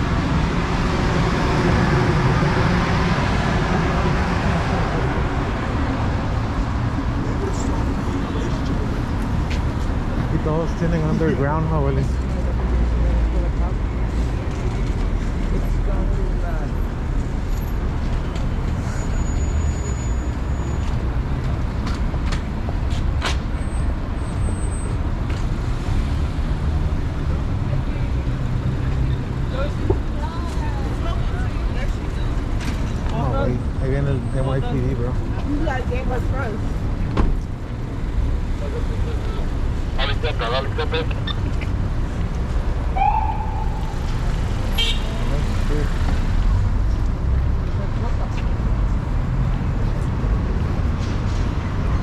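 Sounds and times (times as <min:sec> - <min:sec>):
street traffic rumble: 0:00.0 - 0:52.0.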